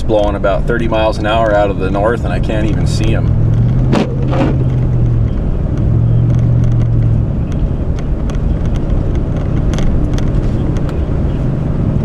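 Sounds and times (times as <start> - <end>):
car engine drone: 0.0 - 12.0
road noise: 0.0 - 12.0.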